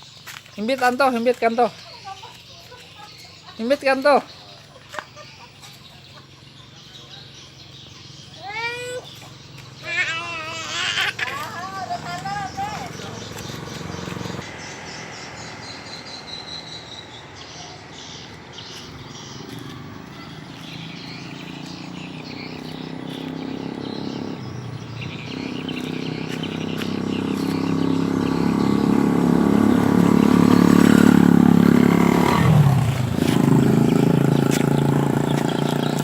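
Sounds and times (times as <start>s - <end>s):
bird chirps: 0.0s - 36.0s
engine humming: 1.6s - 36.0s.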